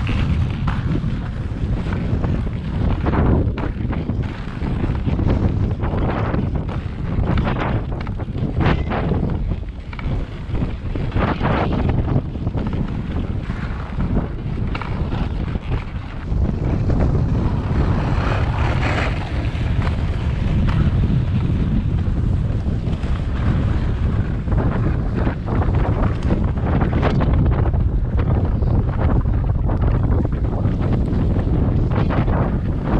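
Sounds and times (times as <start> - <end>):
sled runners scraping on snow: 0.0 - 32.9
wind buffeting microphone: 0.0 - 32.9.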